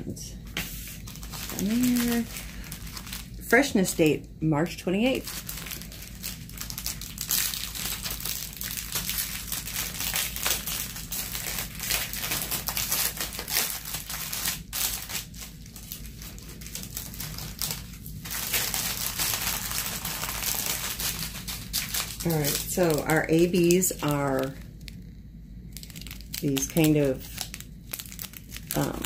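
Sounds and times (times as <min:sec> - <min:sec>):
plastic packaging crinkling: 0:00.4 - 0:29.0.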